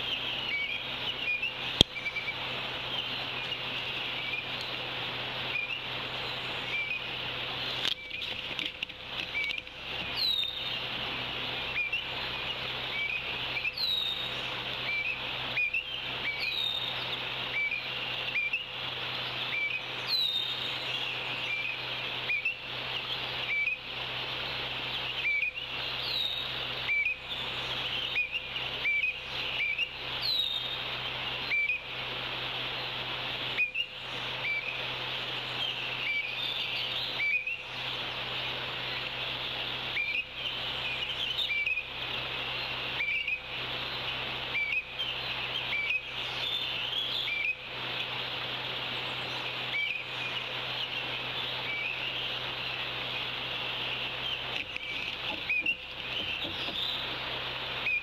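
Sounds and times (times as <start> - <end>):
high-pitched outdoor hiss: 0.0 - 58.0
wild bird calling: 0.0 - 58.0.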